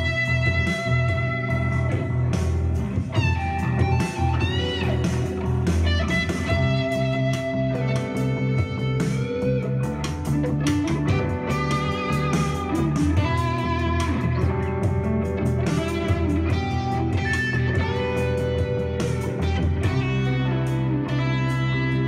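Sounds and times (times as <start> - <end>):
overdriven electric guitar lead: 0.0 - 22.0
power ballad backing track: 0.0 - 22.0.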